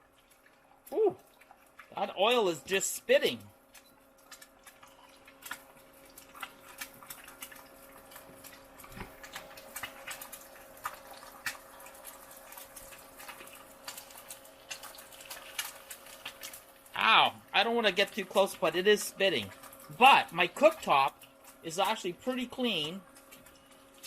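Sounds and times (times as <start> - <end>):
egg frying in oil: 0.0 - 24.0
faint steady hum: 0.0 - 24.0.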